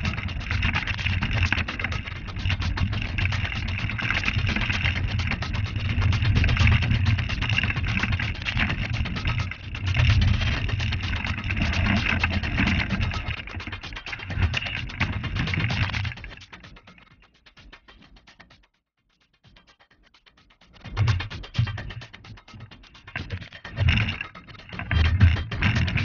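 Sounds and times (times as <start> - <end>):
bike rattling and clicking: 0.0 - 18.5, 20.8 - 26.0.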